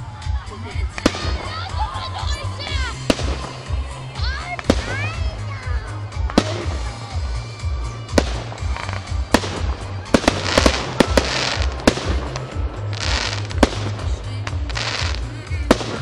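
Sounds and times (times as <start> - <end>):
fireworks crackling bursts: 0.0 - 16.0
fireworks bangs: 0.9 - 5.4, 6.1 - 16.0.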